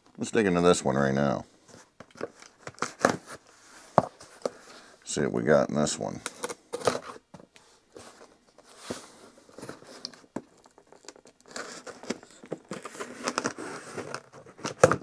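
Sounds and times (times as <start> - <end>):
packaging rustling and crinkling: 1.6 - 5.0, 6.2 - 15.0.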